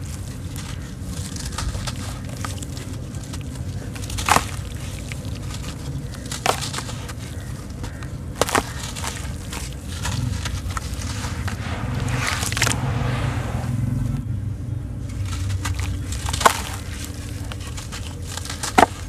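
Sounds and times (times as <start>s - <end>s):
sharp crunches: 0.0s - 14.2s, 15.0s - 19.0s
gritty crackling of crumbling sand: 0.0s - 19.0s.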